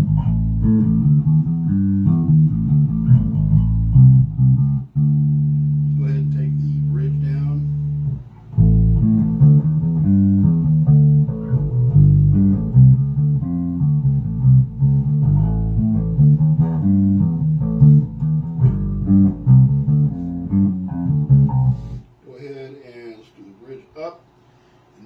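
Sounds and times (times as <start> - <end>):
electric bass melodic notes: 0.0 - 22.2.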